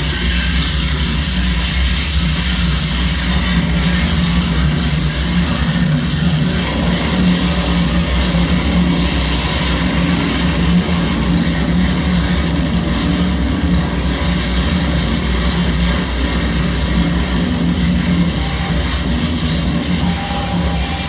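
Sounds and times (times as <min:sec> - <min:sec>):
low steady drone: 0:00.0 - 0:21.0
wall of electronic noise: 0:00.0 - 0:21.0.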